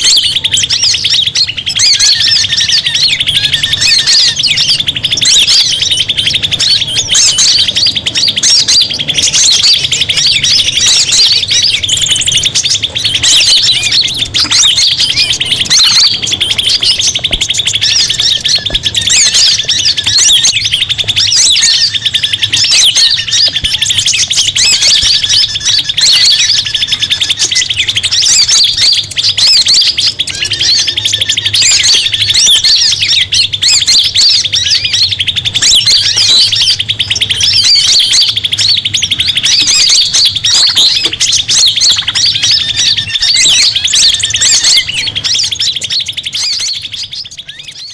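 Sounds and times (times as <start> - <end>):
steady high buzz: 0.0 - 47.6
birds chattering and chirping: 0.0 - 47.9.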